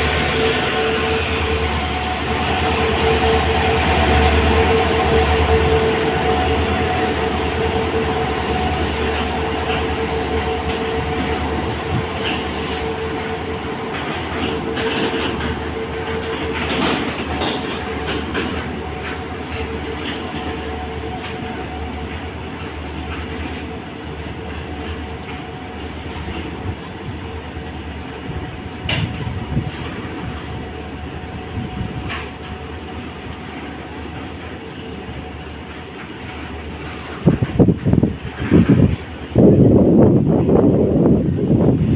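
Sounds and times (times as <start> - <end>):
diesel locomotive whine: 0.0 - 41.9
train wheels rumbling on rails: 0.0 - 41.9.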